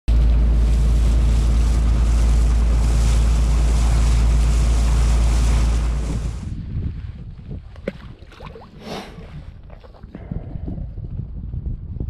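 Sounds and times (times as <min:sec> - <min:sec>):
wind rumble on microphone: 0:00.1 - 0:12.0.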